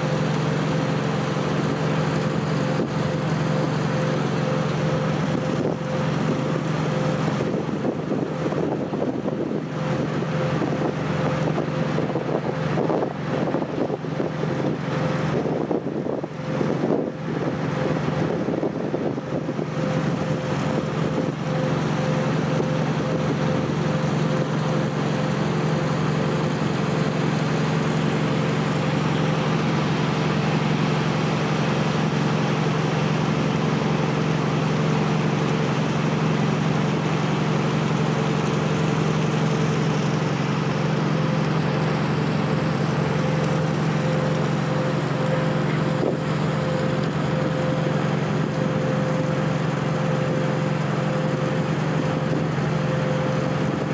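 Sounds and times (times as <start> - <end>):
boat engine droning: 0.0 - 53.9
water rushing: 0.0 - 53.9.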